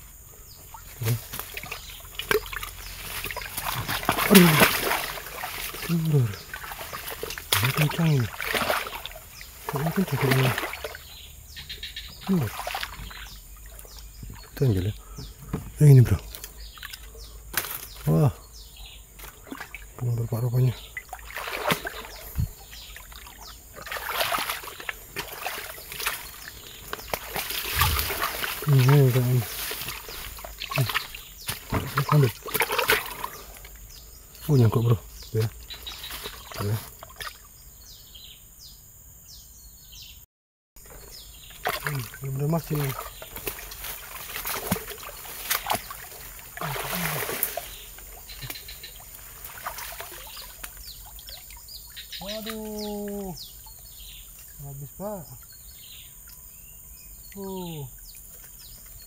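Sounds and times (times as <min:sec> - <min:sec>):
crackles of brushed vegetation: 0:00.0 - 0:37.7, 0:40.8 - 0:59.0
steps splashing through shallow water: 0:00.6 - 0:18.2, 0:19.0 - 0:37.5, 0:40.8 - 0:56.5.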